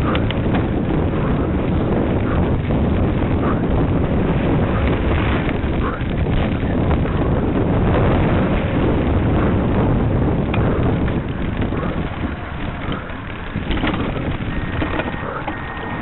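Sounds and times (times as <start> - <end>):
bicycle rumble and rattle: 0.0 - 16.0
wind buffeting microphone: 0.0 - 16.0.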